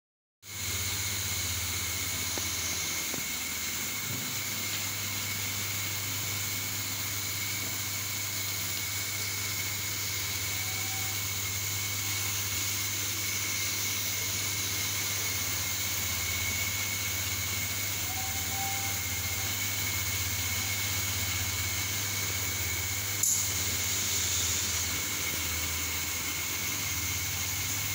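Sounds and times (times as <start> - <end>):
ventilation fans humming: 0.5 - 27.9.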